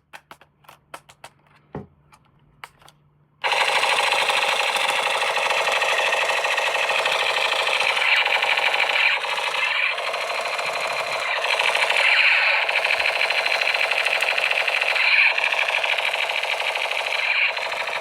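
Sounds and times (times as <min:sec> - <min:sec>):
toy motor and gears rattling: 0:03.4 - 0:18.0.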